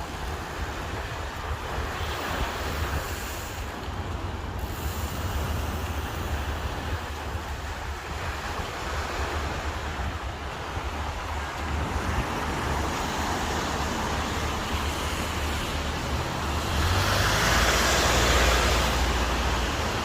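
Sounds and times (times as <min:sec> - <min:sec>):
sea waves breaking: 0:00.0 - 0:20.0
wind buffeting microphone: 0:00.0 - 0:20.0.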